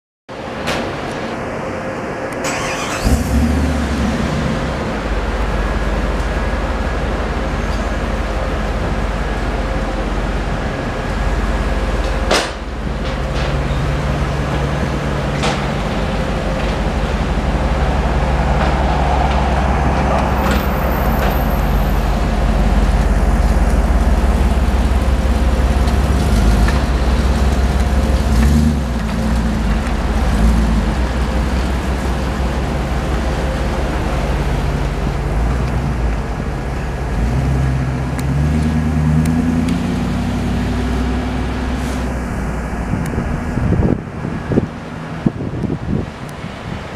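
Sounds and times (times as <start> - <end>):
street traffic: 0.3 - 46.9
car engine rumbling: 0.4 - 46.9.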